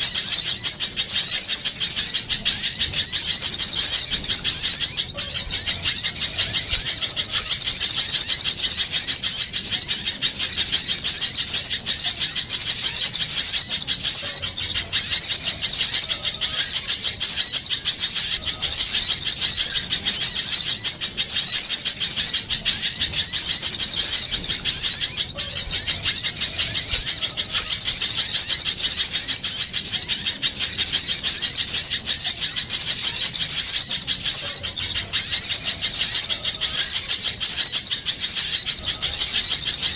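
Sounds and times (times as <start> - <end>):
small songbirds chattering: 0.0 - 39.9.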